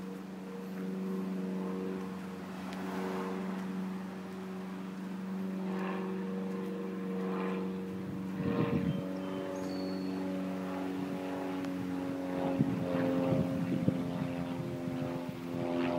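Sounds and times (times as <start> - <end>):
small engine droning: 0.0 - 15.9.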